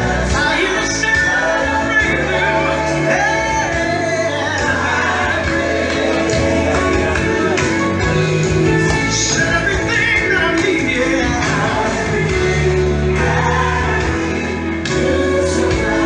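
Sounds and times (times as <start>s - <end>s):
full band playing: 0.0s - 16.0s
gospel singing: 0.0s - 16.0s.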